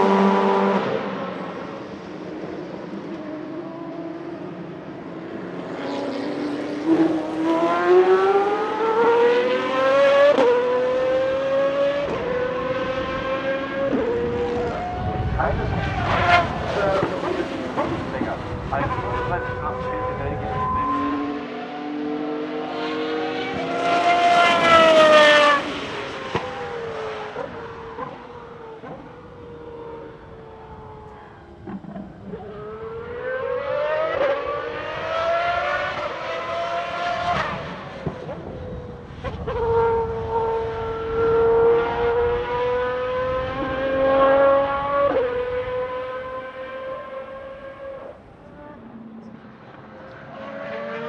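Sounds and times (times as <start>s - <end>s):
racing car engine at speed: 0.0s - 51.0s.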